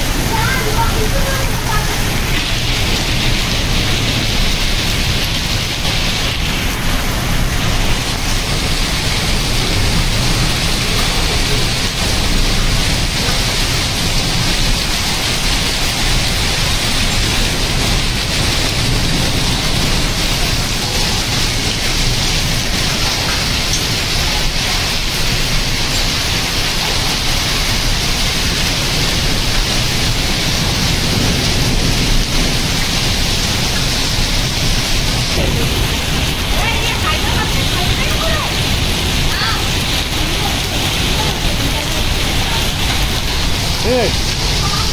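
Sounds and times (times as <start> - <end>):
heavy rain and hail on concrete: 0.0 - 44.9.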